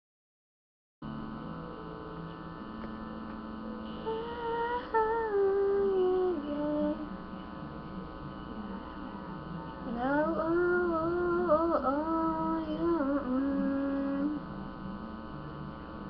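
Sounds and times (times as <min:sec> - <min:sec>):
electrical hum: 0:01.0 - 0:16.0.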